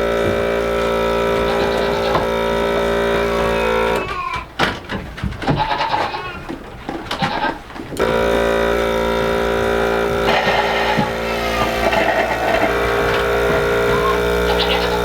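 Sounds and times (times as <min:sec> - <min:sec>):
milking machine motor humming: 0:00.0 - 0:04.6, 0:05.5 - 0:15.0
goats bleating: 0:00.3 - 0:04.6, 0:05.4 - 0:15.0.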